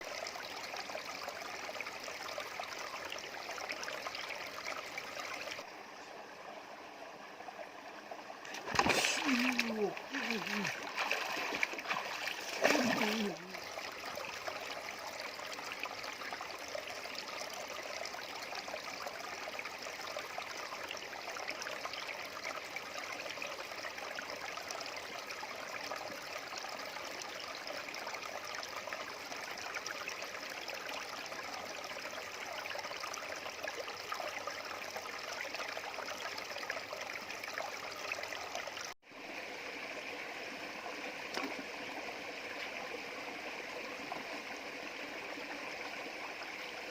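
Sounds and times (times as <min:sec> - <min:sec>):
stream water trickling: 0:00.0 - 0:46.9.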